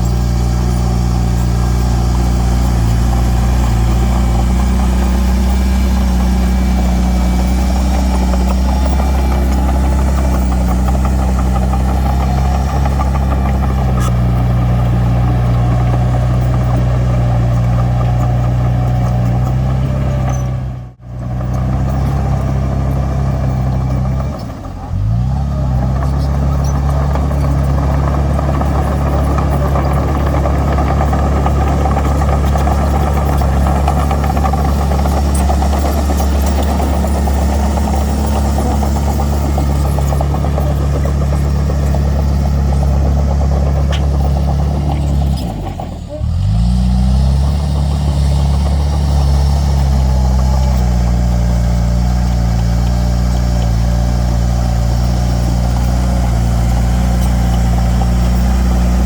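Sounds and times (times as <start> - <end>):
heavy diesel machinery engine: 0.0 - 59.0.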